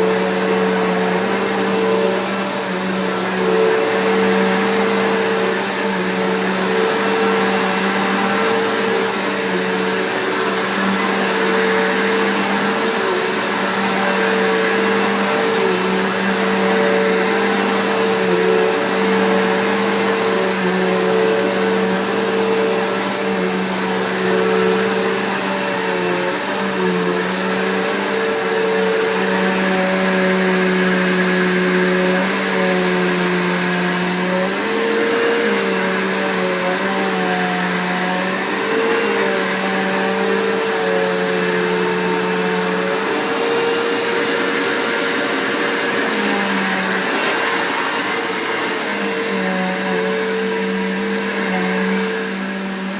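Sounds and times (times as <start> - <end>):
vacuum cleaner motor hum: 0.0 - 52.9.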